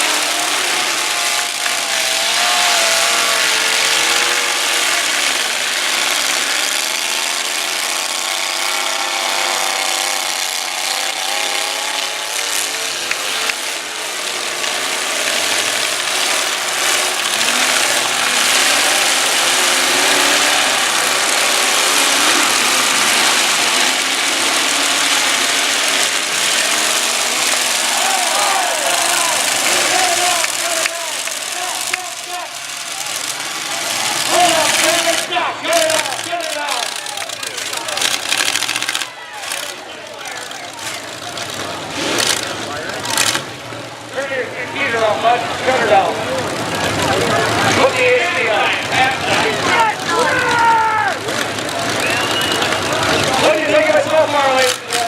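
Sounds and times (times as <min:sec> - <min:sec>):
truck engines revving hard: 0:00.0 - 0:55.0.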